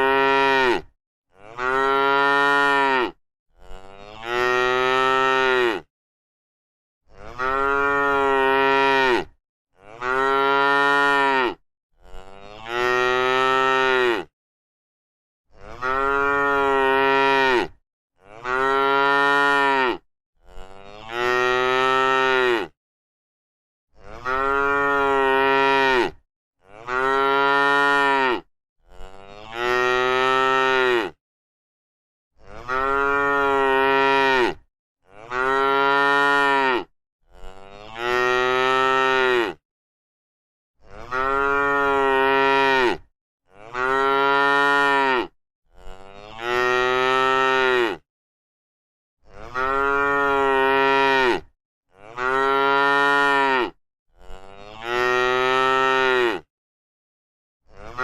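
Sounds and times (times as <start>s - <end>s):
cow mooing: 0.0s - 5.9s, 7.2s - 14.3s, 15.5s - 22.8s, 24.0s - 31.2s, 32.5s - 39.6s, 40.8s - 48.0s, 49.3s - 56.5s, 57.7s - 58.0s.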